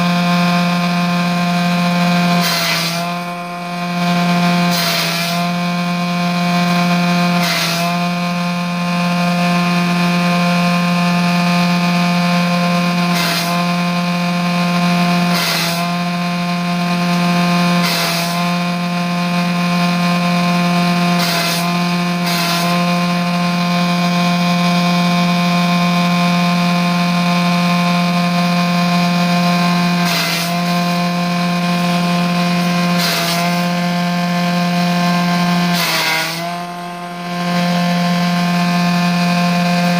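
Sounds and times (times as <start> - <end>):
blades cutting material: 0.0 - 39.9
grass chopper motor humming: 0.0 - 39.9.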